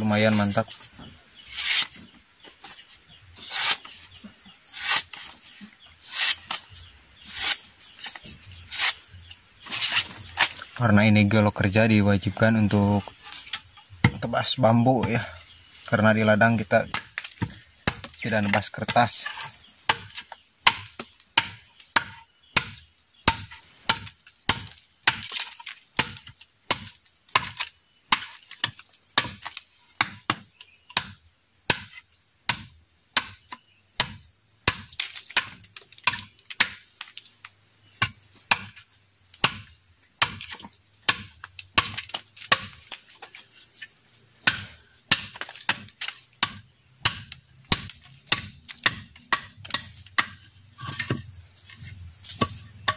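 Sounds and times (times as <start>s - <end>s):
machete chopping bamboo: 1.4s - 2.8s, 3.4s - 10.7s, 13.2s - 14.3s, 16.8s - 52.9s.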